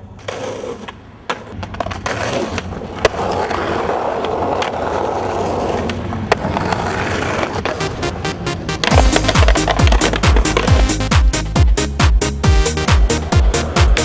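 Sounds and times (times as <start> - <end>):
skateboard wheels rolling on asphalt: 0.0 - 14.0
skateboard clacks: 0.1 - 14.0.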